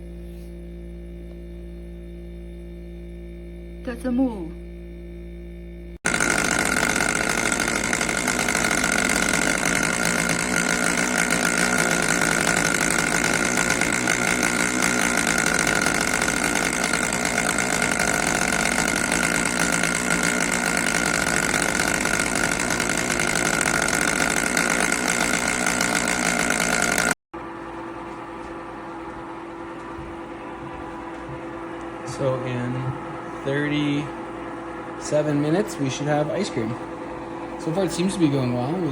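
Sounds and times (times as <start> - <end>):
ice cream maker motor whirring: 2.8 - 38.9.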